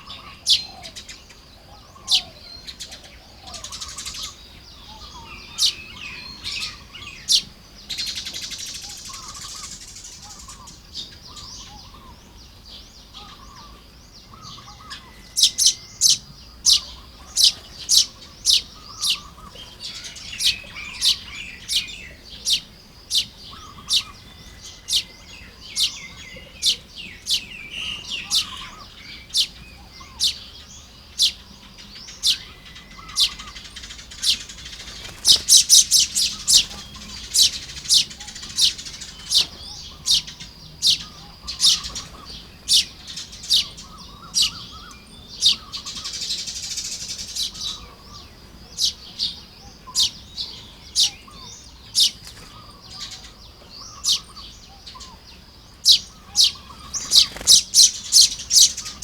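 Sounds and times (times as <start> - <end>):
birds sharp chip calls: 0.0 - 59.0
birds soft chattering: 0.0 - 59.0.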